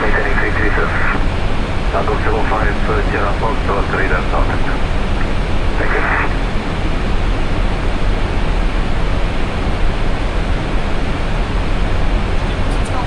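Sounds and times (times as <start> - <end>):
airliner cockpit airflow and engine: 0.0 - 13.0.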